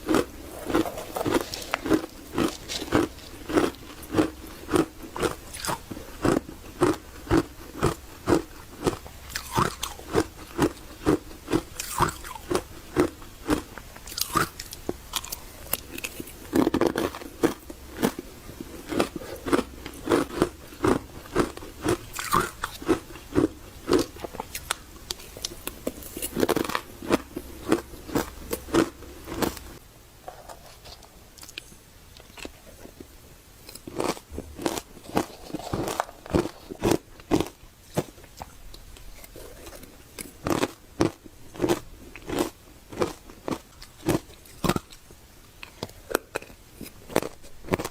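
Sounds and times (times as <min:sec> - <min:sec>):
chewing ice crunches: 0:00.0 - 0:29.8, 0:33.7 - 0:47.9.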